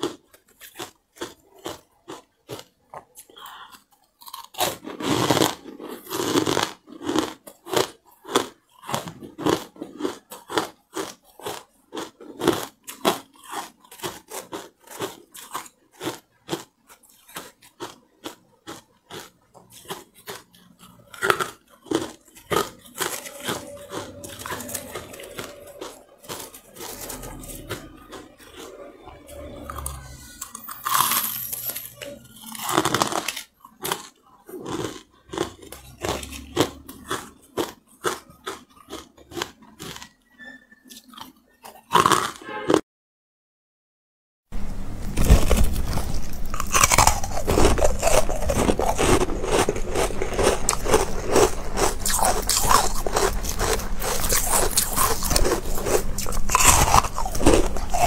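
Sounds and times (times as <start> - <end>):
ice crunching being chewed: 0.0 - 42.8, 45.2 - 58.0.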